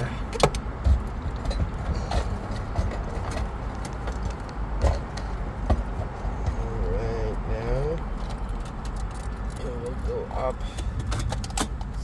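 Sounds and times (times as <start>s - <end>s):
clicks and knocks of hard parts: 0.0s - 6.8s, 8.0s - 10.0s, 10.7s - 12.0s.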